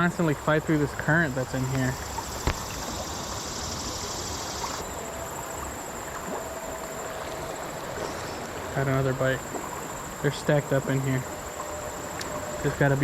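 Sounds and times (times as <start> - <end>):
creek water gurgling over rocks: 0.0 - 13.0
insects droning: 0.0 - 13.0.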